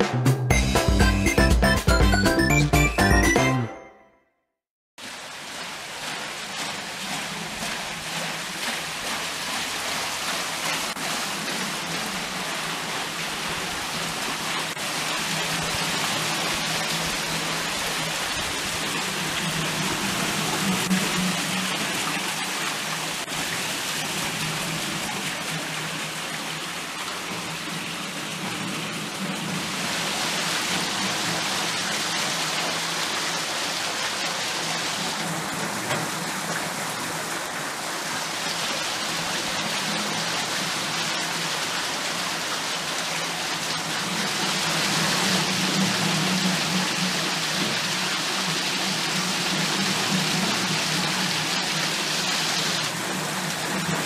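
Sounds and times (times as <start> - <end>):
water splashing on waterwheel: 5.0 - 54.0.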